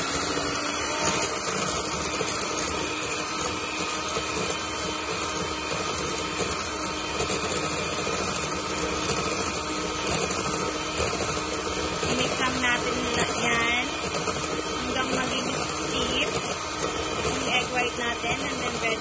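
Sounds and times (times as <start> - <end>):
electric hand mixer whisking: 0.0 - 19.0.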